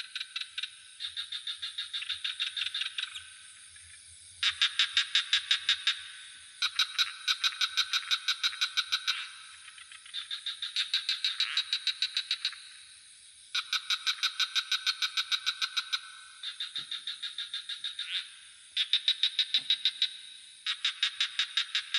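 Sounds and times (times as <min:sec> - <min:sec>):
frogs calling in pulsed trains: 0:00.0 - 0:21.9.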